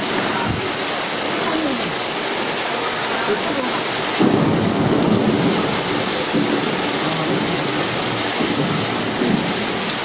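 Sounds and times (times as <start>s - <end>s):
hail and heavy rain pelting concrete: 0.0s - 10.0s.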